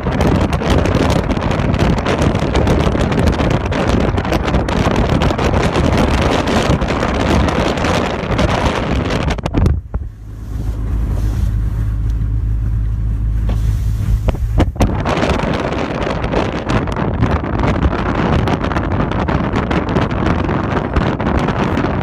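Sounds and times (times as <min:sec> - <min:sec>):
strong storm wind on microphone: 0:00.0 - 0:22.0.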